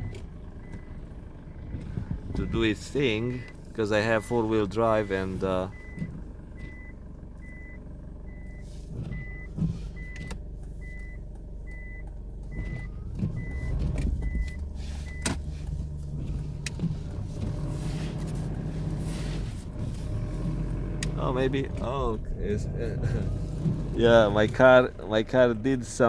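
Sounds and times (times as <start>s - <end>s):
reverse warning beeping: 0.0s - 25.3s
car engine hum: 0.0s - 26.0s.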